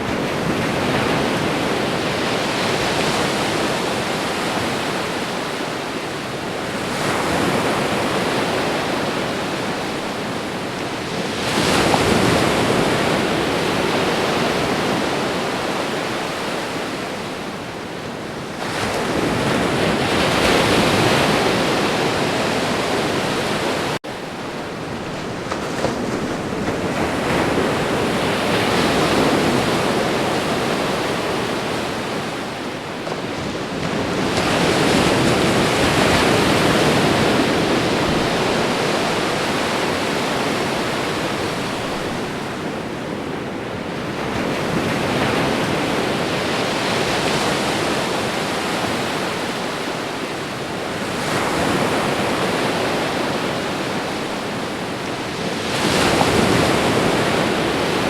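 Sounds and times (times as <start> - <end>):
ocean surf crashing: 0.0 - 58.0.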